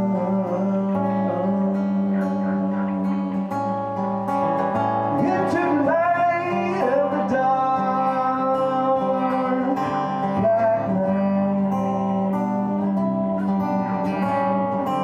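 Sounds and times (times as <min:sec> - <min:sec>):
man singing: 0:00.0 - 0:03.7, 0:04.5 - 0:15.0
acoustic guitar: 0:00.0 - 0:15.0.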